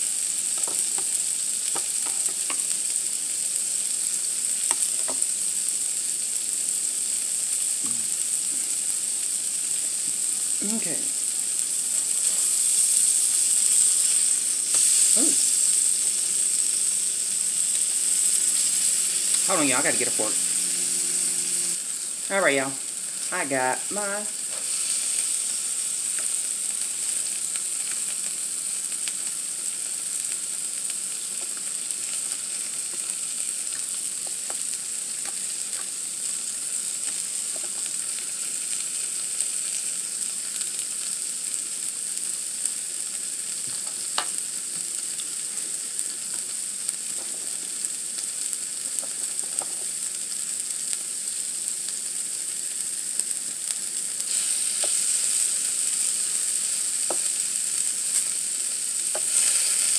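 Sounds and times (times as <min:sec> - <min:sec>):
food sizzling on grill pan: 0:00.0 - 0:59.9.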